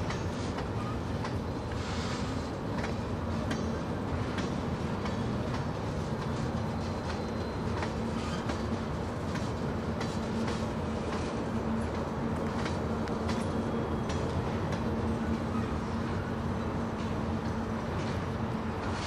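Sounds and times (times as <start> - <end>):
train wheels clicking: 0.0 - 16.0, 16.8 - 19.0
freight train rumbling past: 0.0 - 19.0.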